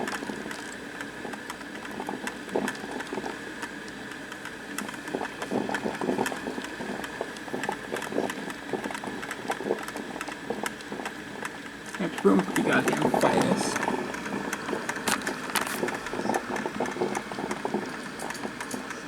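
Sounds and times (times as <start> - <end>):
coffee maker gurgling pops: 0.0 - 19.0
coffee maker hissing: 0.0 - 19.0.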